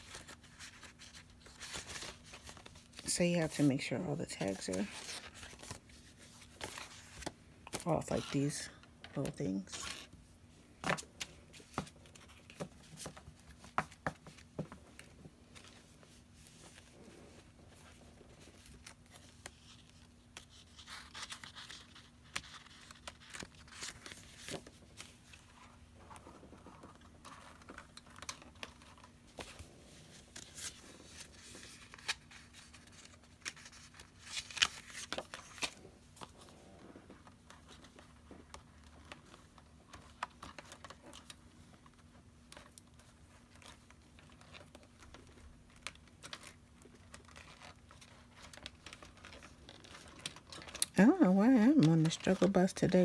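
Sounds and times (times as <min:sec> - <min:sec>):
paper sheets rustling: 0:00.0 - 0:10.2, 0:10.8 - 0:53.0.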